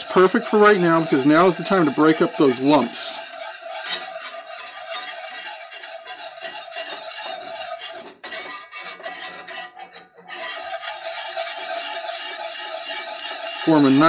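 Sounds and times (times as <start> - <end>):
whisk scraping in a skillet: 0.0 - 14.0.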